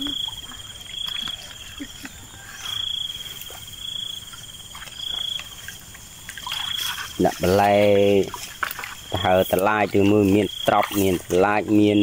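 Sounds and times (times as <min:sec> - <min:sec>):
cricket trilling: 0:00.0 - 0:12.0
small splashes: 0:00.0 - 0:12.0.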